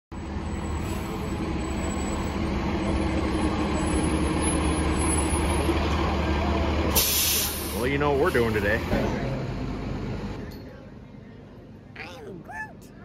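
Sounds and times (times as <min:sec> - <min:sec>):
bus engine humming: 0:00.1 - 0:13.0.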